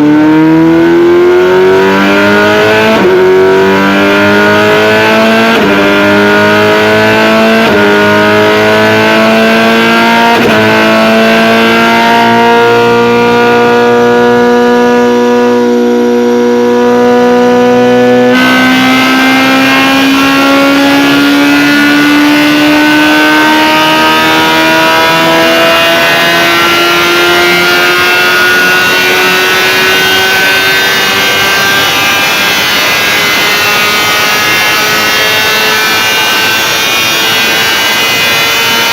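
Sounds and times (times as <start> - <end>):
motorcycle engine accelerating hard: 0.0 - 38.9.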